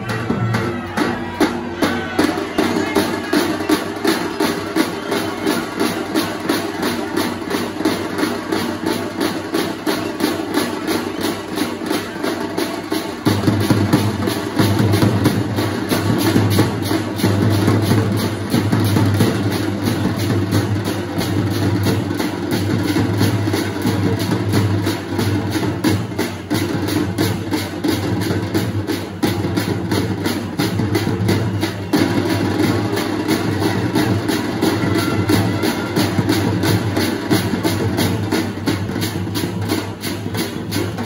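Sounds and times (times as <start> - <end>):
fast steady drumbeat: 0.0 - 41.0.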